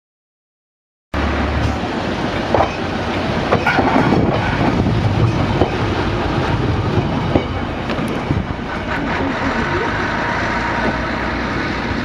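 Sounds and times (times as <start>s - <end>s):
diesel railbus engine passing: 1.2s - 12.0s
wheels clicking over rail joints: 1.6s - 12.0s.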